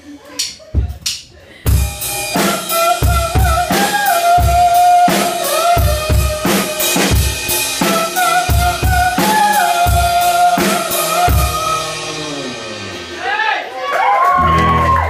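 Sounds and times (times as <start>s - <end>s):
rock drum kit beat: 0.4s - 13.4s.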